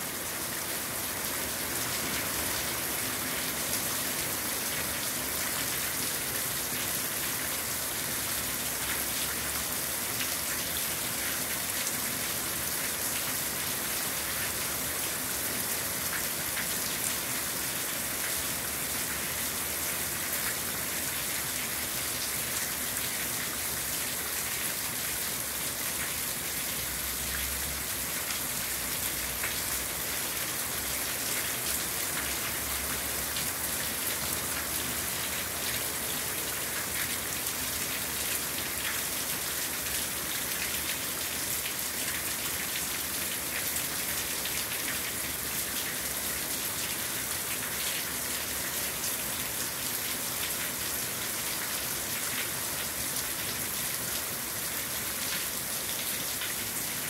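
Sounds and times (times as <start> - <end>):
heavy rain on corrugated roof: 0.0 - 57.0.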